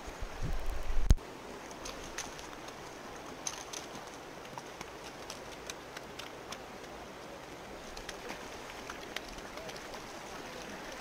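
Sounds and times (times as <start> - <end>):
river running over gravel: 0.0 - 11.0.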